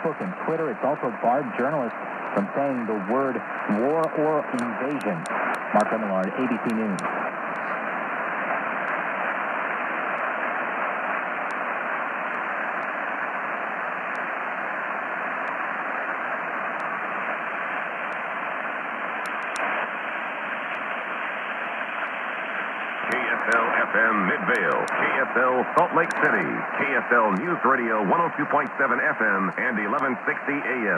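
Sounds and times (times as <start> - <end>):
radio static hiss: 0.0 - 30.9.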